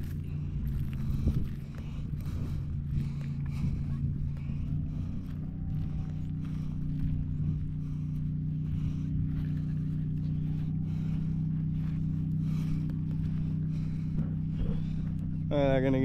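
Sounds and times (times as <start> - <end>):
footsteps crunching on gravel: 0.0 - 16.0
low motor-like hum: 0.0 - 16.0.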